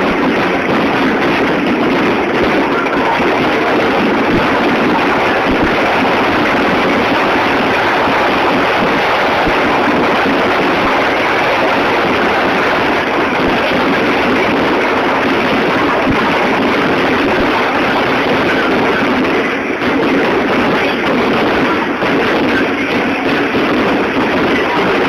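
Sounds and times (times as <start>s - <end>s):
fireworks barrage: 0.0s - 25.0s
heavy rain: 0.0s - 25.0s.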